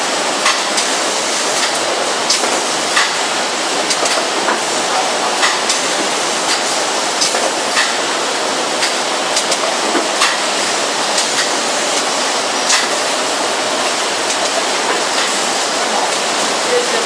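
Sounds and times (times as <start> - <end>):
machine clicks and clacks: 0.4 - 4.7, 5.4 - 8.1, 8.8 - 16.5
bundling machine rushing noise: 0.7 - 17.0.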